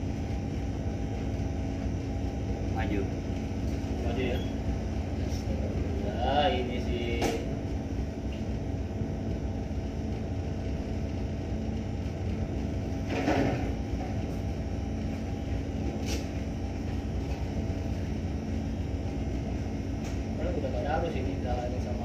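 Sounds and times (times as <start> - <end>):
engine machinery humming: 0.0 - 22.0.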